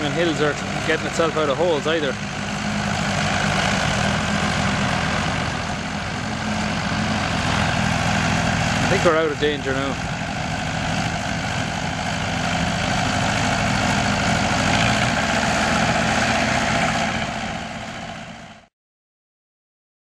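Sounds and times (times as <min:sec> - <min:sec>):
combine harvester engine drone: 0:00.0 - 0:18.7.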